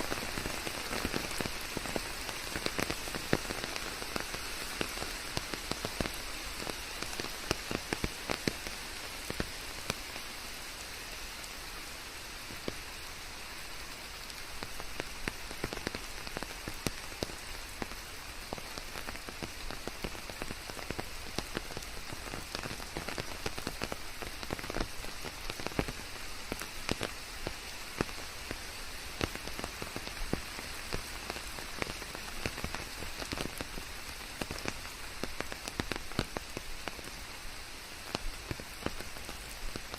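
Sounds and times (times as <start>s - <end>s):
raindrops ticking on leaves: 0.0s - 39.9s
steady rain: 0.0s - 39.9s.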